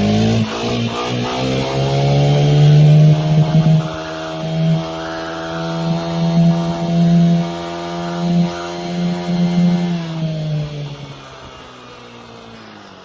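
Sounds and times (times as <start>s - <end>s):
dirt bike motor running: 0.0s - 13.0s.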